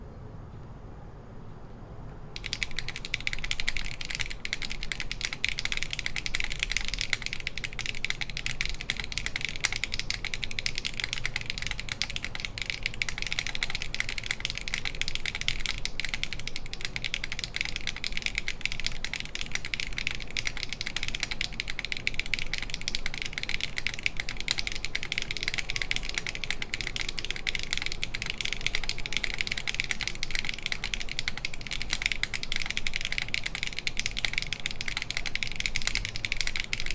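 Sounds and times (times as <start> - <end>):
mechanical keyboard typing: 2.4 - 36.9.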